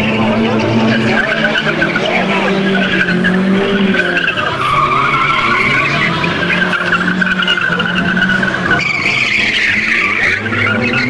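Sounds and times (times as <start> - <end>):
car engine running: 0.0 - 11.0
car tyres squealing: 0.0 - 11.0.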